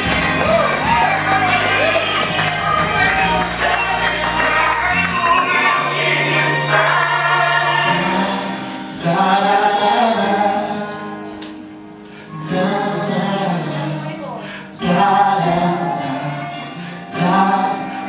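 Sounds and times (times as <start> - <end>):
choir singing gospel song: 0.0 - 18.0
musical accompaniment: 0.0 - 18.0.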